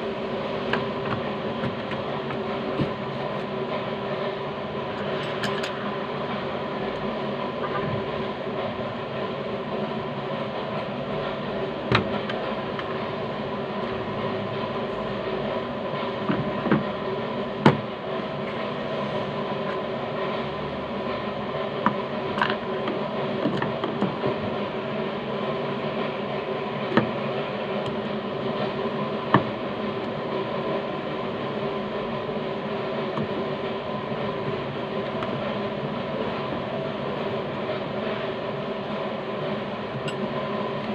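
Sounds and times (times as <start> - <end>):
steady mechanical drone: 0.0 - 40.9.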